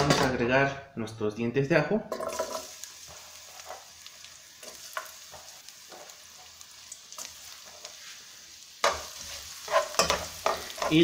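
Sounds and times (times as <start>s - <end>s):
garlic sizzling in oil: 2.1s - 11.0s.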